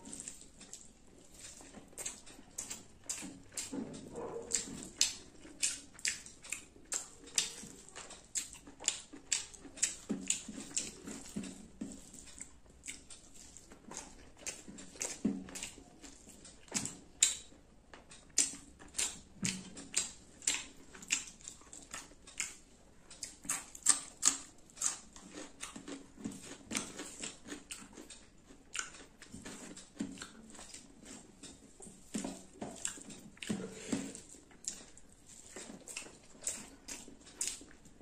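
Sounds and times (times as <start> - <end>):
person chewing and lip-smacking: 0.0 - 38.0.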